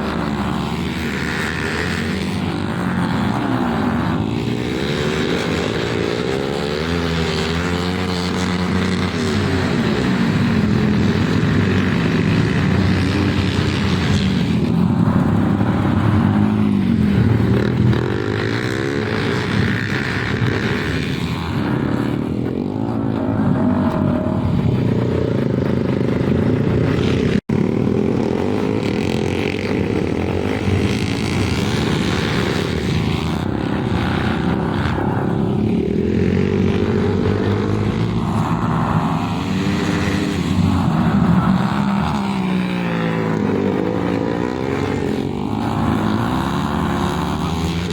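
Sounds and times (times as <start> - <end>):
motorcycles racing past: 0.0 - 47.9.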